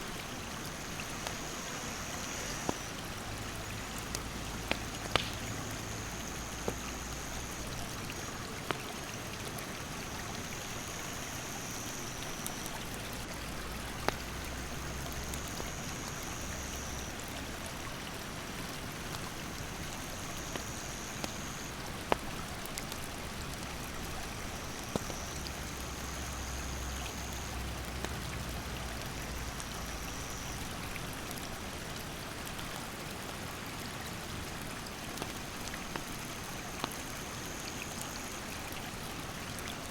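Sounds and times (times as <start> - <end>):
stream rushing over rocks: 0.0 - 39.9
campfire crackling: 0.1 - 39.9.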